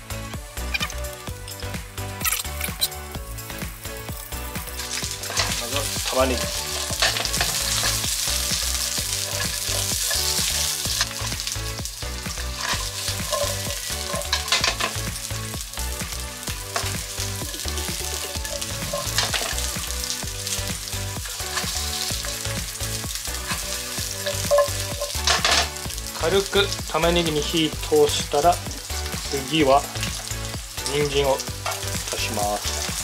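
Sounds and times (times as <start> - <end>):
onions sizzling in a frying pan: 2.9 - 33.0.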